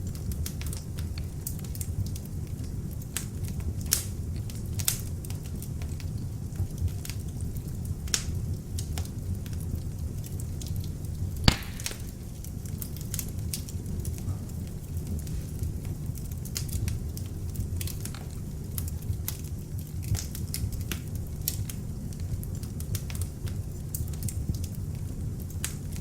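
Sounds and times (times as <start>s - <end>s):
fire crackling pops and snaps: 0.0s - 26.0s
fire flames rumbling: 0.0s - 26.0s.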